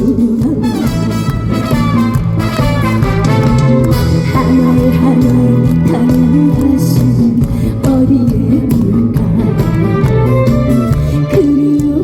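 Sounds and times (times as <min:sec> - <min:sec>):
trot song through sound system: 0:00.0 - 0:12.0.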